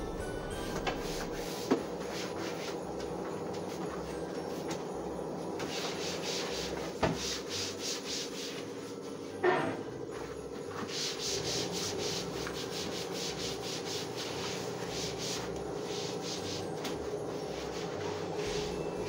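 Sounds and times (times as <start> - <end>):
sponge scrubbing cabinet: 0.7 - 4.6, 5.6 - 9.4, 10.2 - 19.0.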